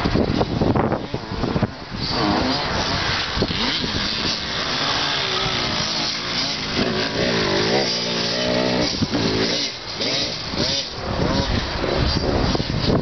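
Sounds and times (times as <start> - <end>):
dirt bike engines revving: 0.0 - 13.0
steady rushing noise: 0.0 - 13.0.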